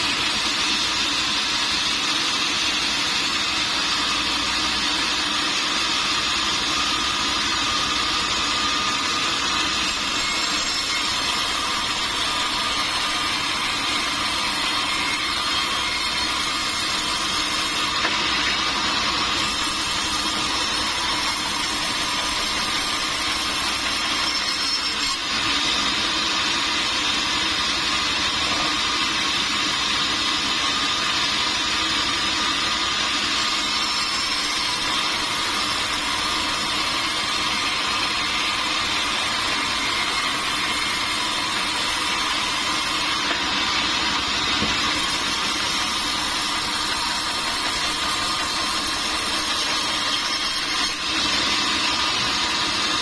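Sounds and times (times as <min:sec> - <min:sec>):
sawmill machinery whine: 0:00.0 - 0:53.0.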